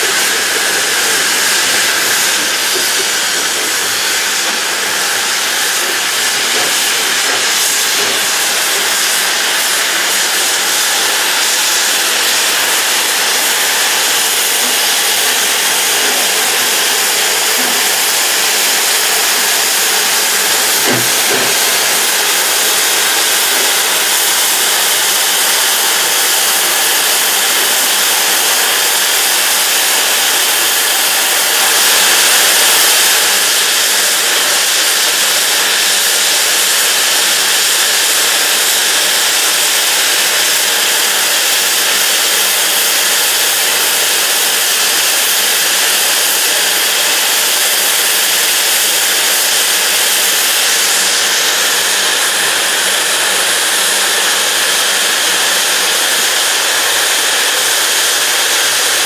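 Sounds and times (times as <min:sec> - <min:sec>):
steam locomotive safety valves hissing: 0:00.0 - 0:59.0.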